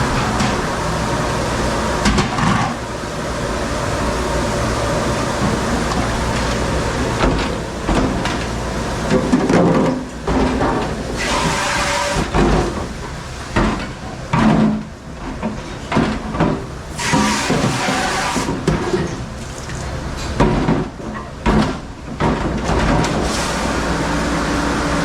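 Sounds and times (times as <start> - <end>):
dishwashing machine running: 0.0 - 25.0.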